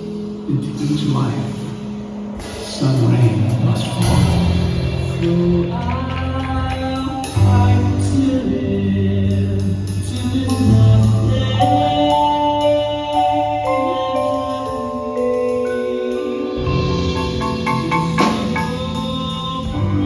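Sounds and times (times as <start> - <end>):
instrumental accompaniment with beat: 3.5 - 20.0.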